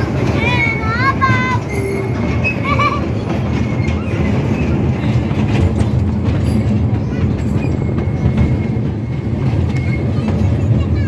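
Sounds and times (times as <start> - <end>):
light rail clatter: 0.0 - 11.0
small train rumbling on track: 0.0 - 11.0.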